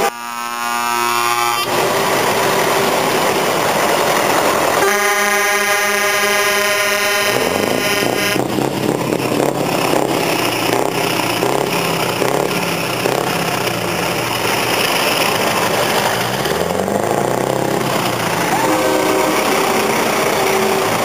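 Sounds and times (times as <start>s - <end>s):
diesel truck engine revving: 0.0s - 21.0s
truck engine approaching: 0.0s - 21.0s.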